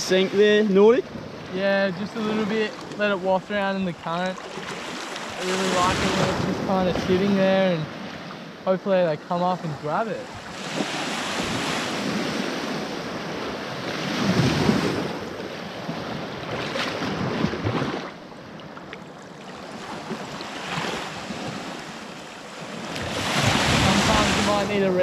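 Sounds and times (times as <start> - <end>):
small waves breaking on shore: 0.0 - 25.0.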